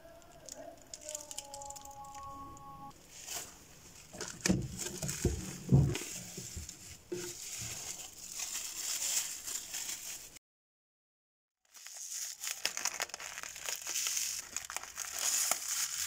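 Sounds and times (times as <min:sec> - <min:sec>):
crinkling rustling handling noise: 0:00.2 - 0:02.3, 0:02.9 - 0:10.4, 0:11.7 - 0:16.0.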